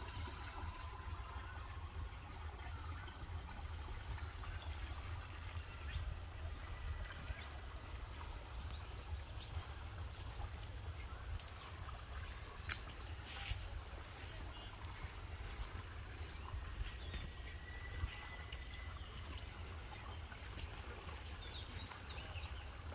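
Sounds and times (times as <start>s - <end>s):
steady low rumble: 0.1s - 22.9s.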